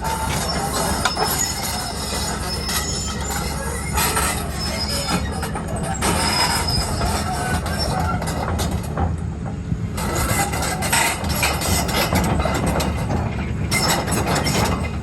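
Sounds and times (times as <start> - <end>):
track links squealing and clanking: 0.0 - 9.2, 9.9 - 15.0
diesel engine running: 0.0 - 15.0.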